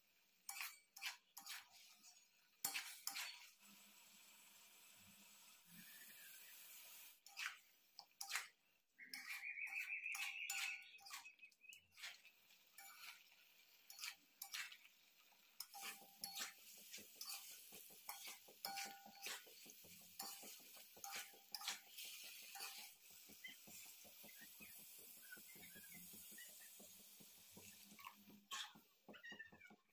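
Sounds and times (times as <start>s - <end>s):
metal spatula scraping metal pan: 0.5s - 3.8s, 6.0s - 14.9s, 15.5s - 26.9s, 27.7s - 28.9s.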